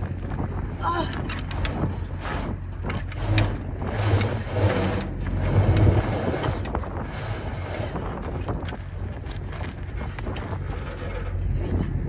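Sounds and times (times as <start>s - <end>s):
crank mechanism clicking and rattling: 1.0s - 11.8s.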